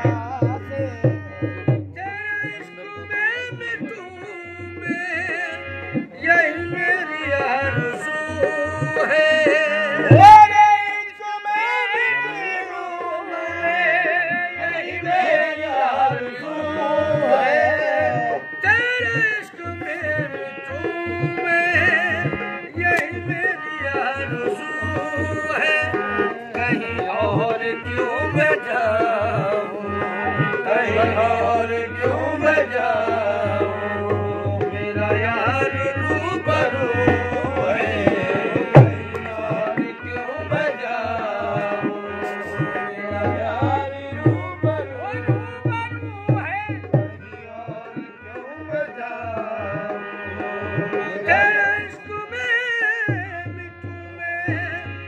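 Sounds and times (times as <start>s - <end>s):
harmonium melody: 0.0s - 55.0s
men singing: 0.0s - 55.0s.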